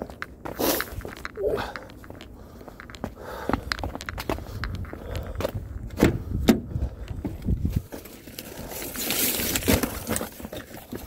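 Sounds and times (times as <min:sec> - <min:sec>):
footsteps: 0:00.0 - 0:11.0.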